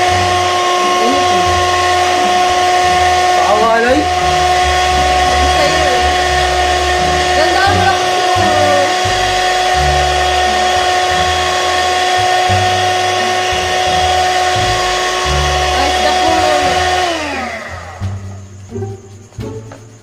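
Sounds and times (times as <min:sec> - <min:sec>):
electric hand mixer whining: 0:00.0 - 0:18.6.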